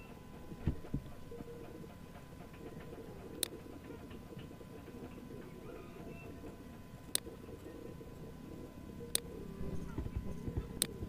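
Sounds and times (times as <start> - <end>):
faint background hiss and hum: 0.0 - 11.0.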